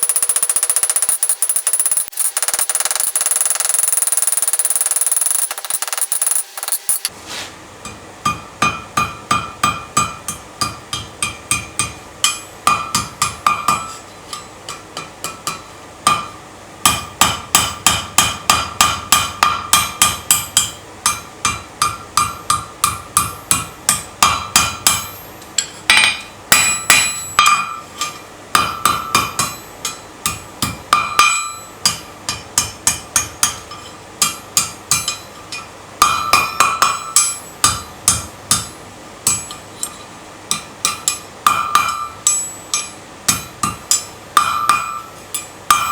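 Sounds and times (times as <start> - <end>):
hammer striking metal on anvil: 7.8 - 39.6, 40.5 - 45.9.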